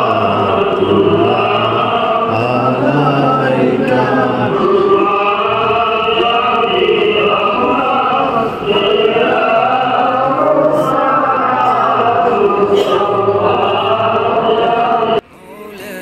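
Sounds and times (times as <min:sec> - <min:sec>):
voices chanting a hymn: 0:00.0 - 0:16.0.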